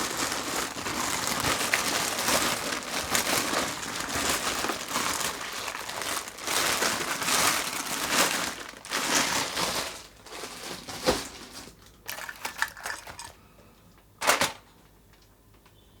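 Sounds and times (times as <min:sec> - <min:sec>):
candy wrappers crinkling: 0:00.0 - 0:13.4.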